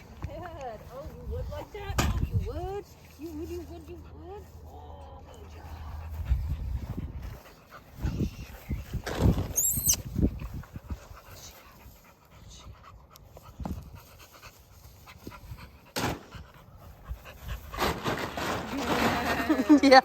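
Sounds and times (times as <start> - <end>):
dog panting: 0.0 - 9.0, 9.6 - 18.0.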